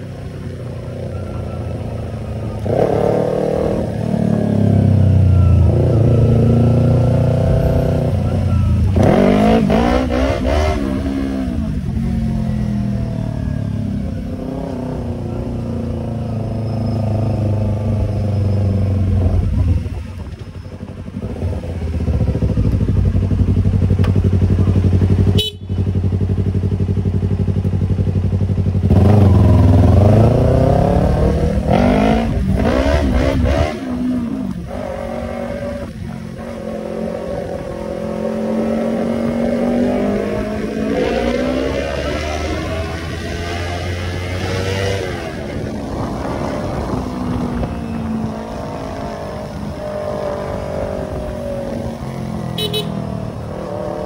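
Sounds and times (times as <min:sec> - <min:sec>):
motorcycle engine riding: 0:00.0 - 0:54.0.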